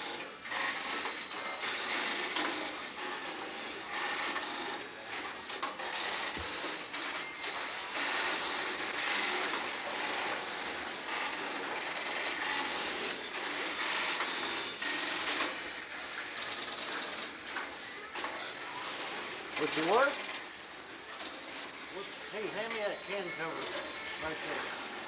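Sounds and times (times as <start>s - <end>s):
hissy machine working noise: 0.0s - 25.0s.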